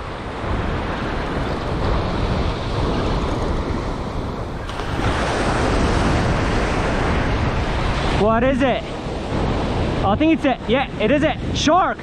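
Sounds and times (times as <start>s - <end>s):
ocean surf washing on beach: 0.0s - 12.0s
wind buffeting microphone: 0.0s - 12.0s.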